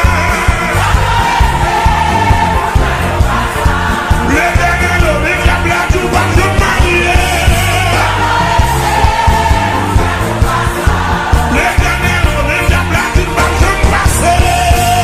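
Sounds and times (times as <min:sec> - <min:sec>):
band with bass and drums: 0:00.0 - 0:15.0.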